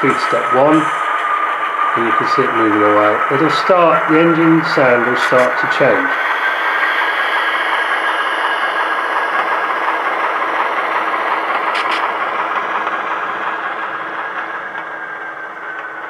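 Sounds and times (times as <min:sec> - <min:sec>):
simulated diesel engine sound: 0:00.0 - 0:16.0
turbocharger whine: 0:00.0 - 0:16.0.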